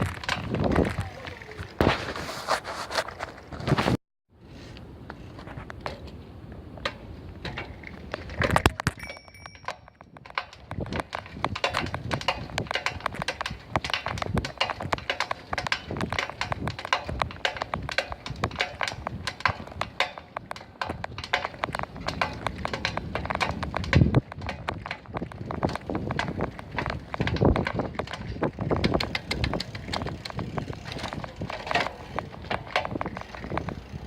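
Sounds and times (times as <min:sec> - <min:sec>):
bicycle clicking and knocking: 0:00.0 - 0:01.6, 0:06.8 - 0:34.0.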